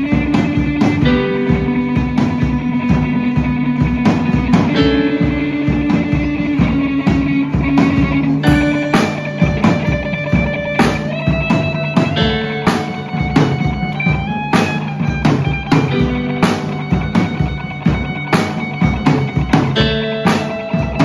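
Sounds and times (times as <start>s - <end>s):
guitar chords: 0.0s - 21.0s
steady drum beat: 0.0s - 21.0s.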